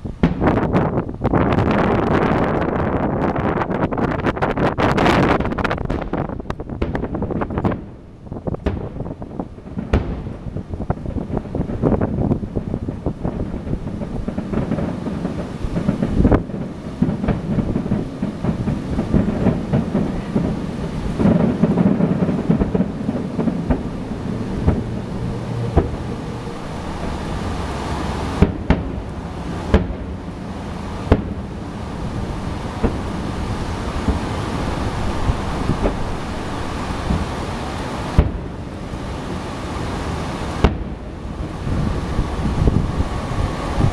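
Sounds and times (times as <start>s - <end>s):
fireworks bangs: 0.0s - 43.9s
wind buffeting microphone: 0.0s - 43.9s.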